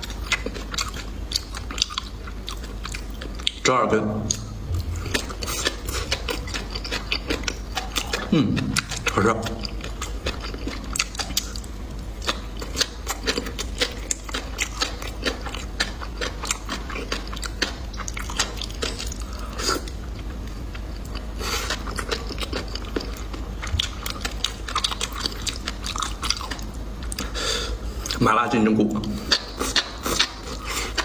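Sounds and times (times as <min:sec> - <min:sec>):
person chewing crunchy food: 0:00.0 - 0:03.6, 0:04.2 - 0:31.0.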